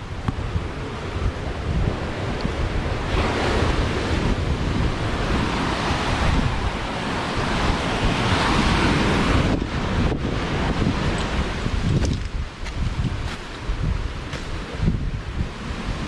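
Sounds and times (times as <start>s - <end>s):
steady rushing noise: 0.0s - 16.0s
wind buffeting microphone: 0.0s - 16.0s.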